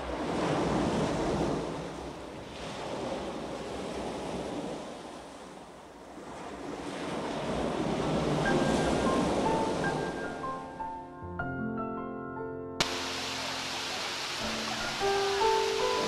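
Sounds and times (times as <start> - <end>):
rushing water roar: 0.0 - 10.7, 12.8 - 16.0.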